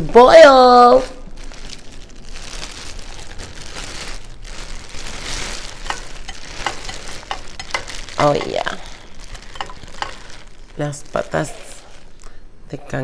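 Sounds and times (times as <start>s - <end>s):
plastic bag crinkling: 0.9s - 12.3s.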